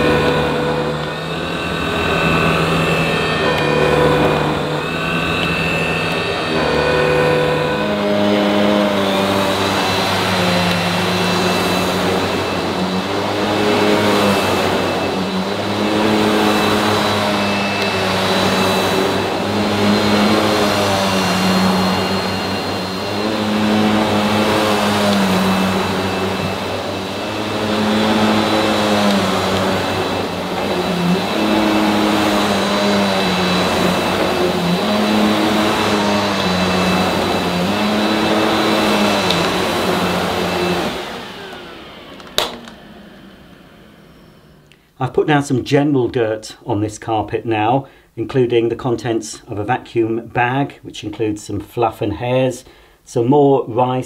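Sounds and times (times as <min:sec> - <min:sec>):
vacuum cleaner motor: 0:00.0 - 0:44.9
high whine: 0:00.0 - 0:45.6.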